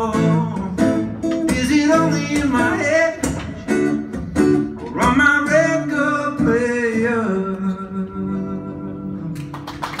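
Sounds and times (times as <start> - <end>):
man singing: 0.0 - 9.3
acoustic guitar: 0.0 - 10.0.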